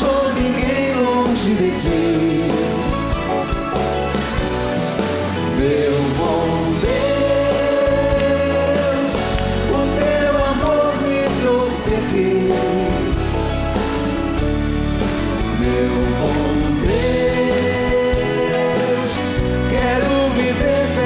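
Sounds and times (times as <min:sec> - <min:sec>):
live band playing worship song: 0:00.0 - 0:21.0.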